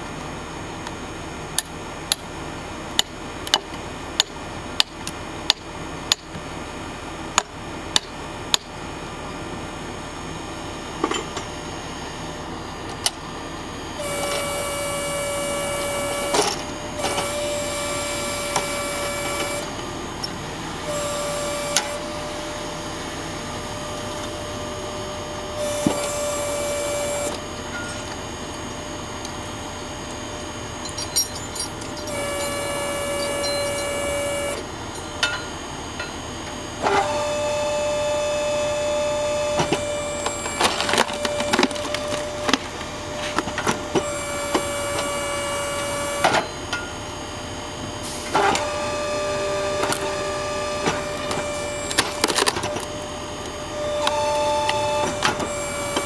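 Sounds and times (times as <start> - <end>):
hydraulic log splitter whining: 8.0 - 30.9, 31.7 - 56.0.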